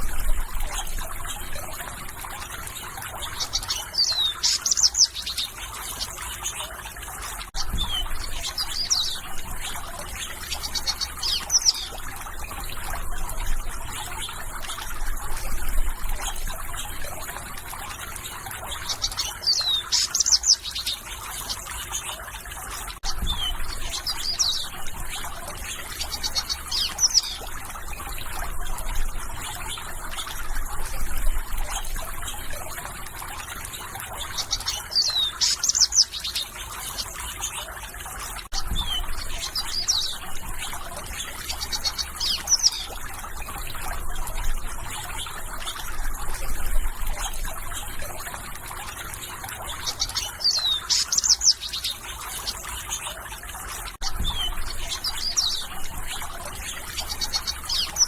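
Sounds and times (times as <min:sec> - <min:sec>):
running water trickling: 0:00.0 - 0:58.0
songbirds chirping: 0:00.0 - 0:58.0.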